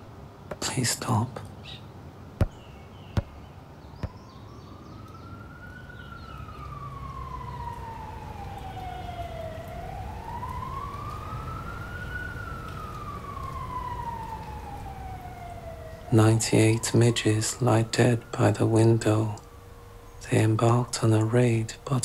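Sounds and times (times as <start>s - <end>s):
siren wailing: 4.0s - 21.9s.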